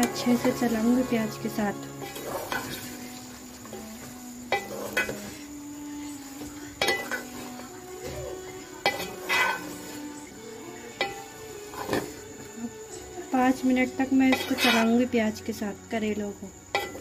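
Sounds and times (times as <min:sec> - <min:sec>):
wooden spatula scraping pot: 0:00.0 - 0:15.1
vegetables frying in oil: 0:00.0 - 0:17.0.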